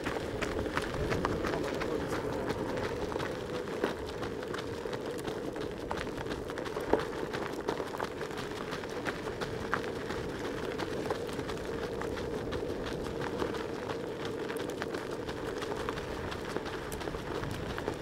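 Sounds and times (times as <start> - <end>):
runners' footsteps on dirt: 0.0 - 18.0
steady rushing noise: 0.0 - 18.0.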